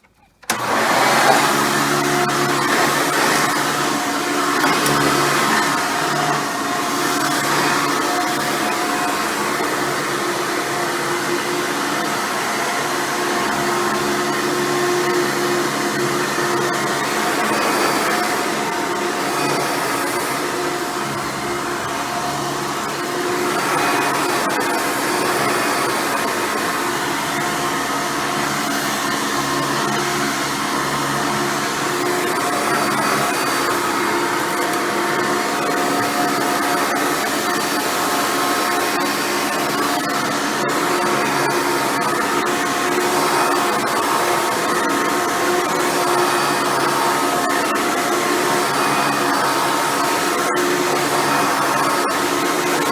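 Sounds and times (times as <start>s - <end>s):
vacuum cleaner running: 0.4s - 52.9s.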